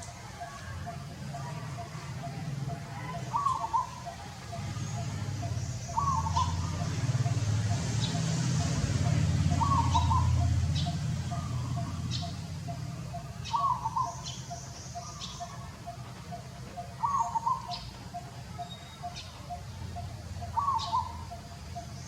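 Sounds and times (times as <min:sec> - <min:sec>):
bird warbling call: 0:00.0 - 0:22.0
fast pulsing bird call: 0:00.0 - 0:22.0.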